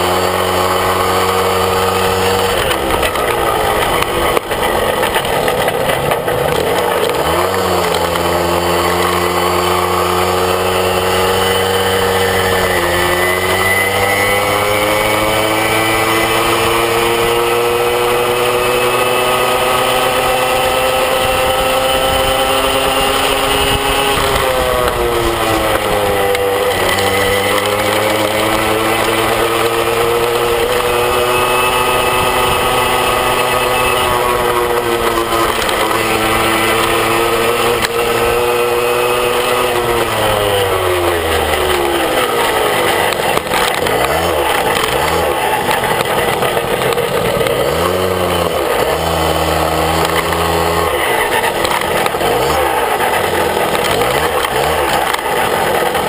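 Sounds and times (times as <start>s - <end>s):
moped engine revving: 0.0s - 56.0s.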